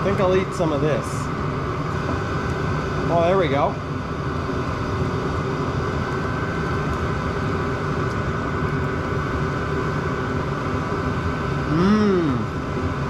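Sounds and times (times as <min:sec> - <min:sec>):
heater blower humming: 0:00.0 - 0:13.0
steady whine: 0:00.0 - 0:13.0.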